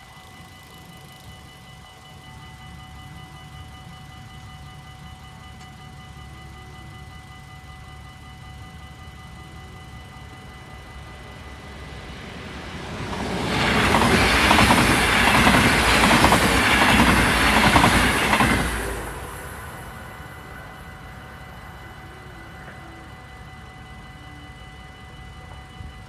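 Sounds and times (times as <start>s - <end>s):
crossing warning bell ringing: 0.0s - 26.0s
electric train passing: 0.0s - 26.0s.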